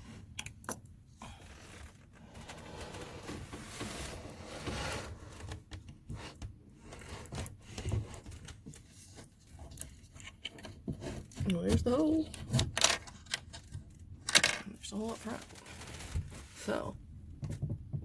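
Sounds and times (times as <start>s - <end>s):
scraping and rustling: 1.3s - 13.8s, 15.0s - 16.9s.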